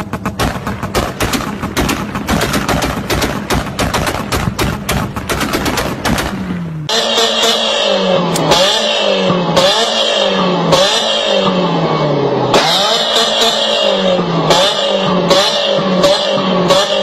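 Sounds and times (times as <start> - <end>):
car engine revving: 0.0 - 17.0
exhaust cracks: 0.0 - 17.0.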